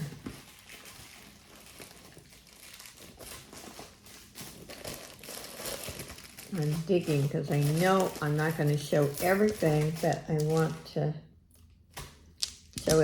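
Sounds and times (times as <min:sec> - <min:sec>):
faint crinkling: 0:00.0 - 0:11.0.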